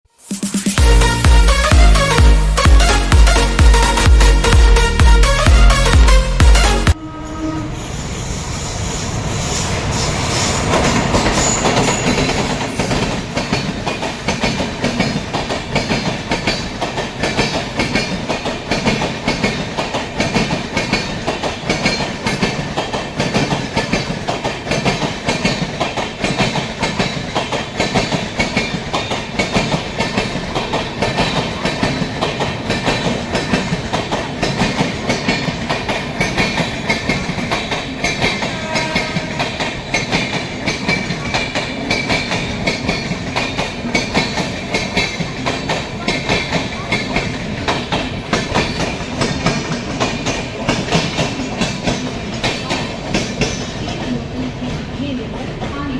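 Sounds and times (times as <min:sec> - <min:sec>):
train wheels clattering over rails: 0:07.9 - 0:55.9.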